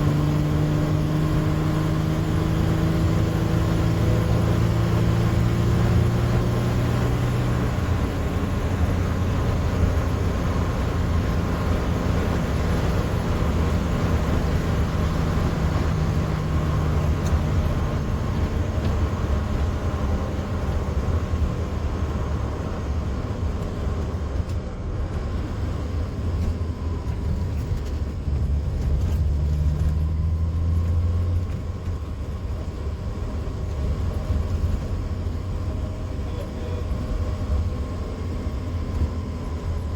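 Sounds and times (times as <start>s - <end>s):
car engine running while driving: 0.0s - 39.9s
road and tyre noise: 0.0s - 39.9s.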